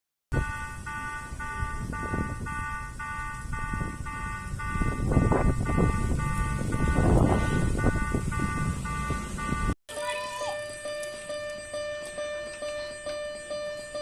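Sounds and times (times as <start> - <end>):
railroad crossing bell chiming: 0.4 - 14.0.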